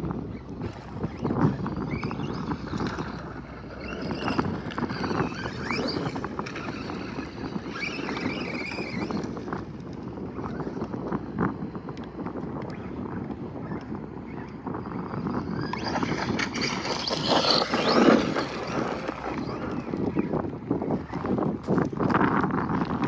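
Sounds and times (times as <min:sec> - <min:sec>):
electric motor whining: 0:00.0 - 0:11.5, 0:12.6 - 0:23.0
wind on microphone: 0:00.0 - 0:23.0
tyres on dirt: 0:00.3 - 0:11.2, 0:15.2 - 0:23.0.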